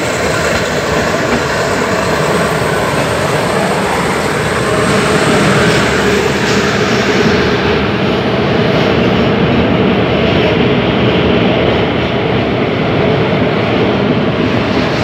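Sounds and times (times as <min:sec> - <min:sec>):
train wheel and rail noise in tunnel: 0:00.0 - 0:15.0.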